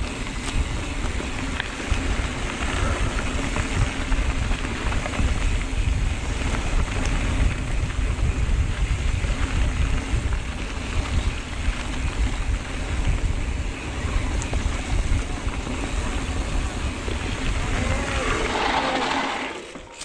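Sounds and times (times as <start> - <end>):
wind rushing over microphone: 0.0 - 19.9
bike tyres rumbling on dirt: 0.0 - 20.0.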